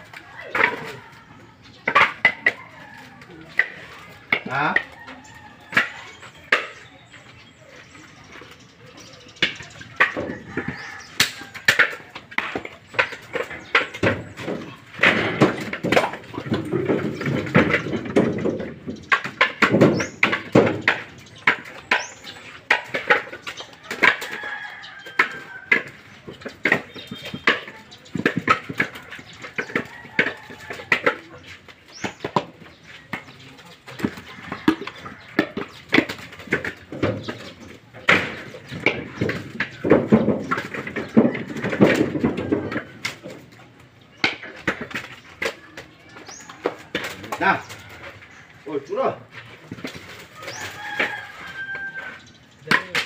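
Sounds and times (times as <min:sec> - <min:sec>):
coconuts knocking together: 0:00.0 - 0:53.0.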